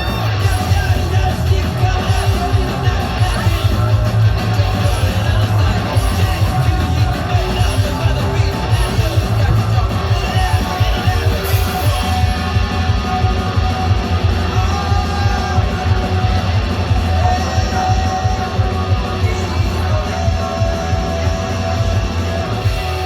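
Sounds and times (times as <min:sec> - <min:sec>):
rock music with electric guitar: 0:00.0 - 0:23.0.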